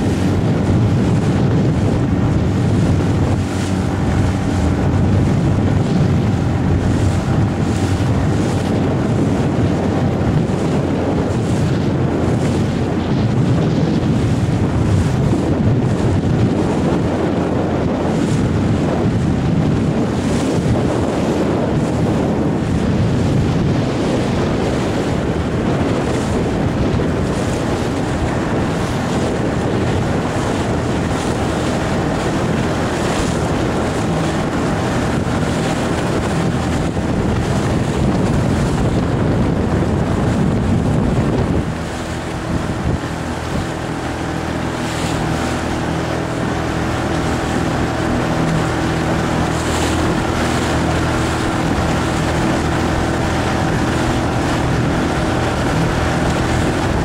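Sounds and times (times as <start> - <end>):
motorboat engine hum: 0.0 - 57.0
waves splashing: 0.0 - 57.0
wind buffeting microphone: 0.0 - 57.0.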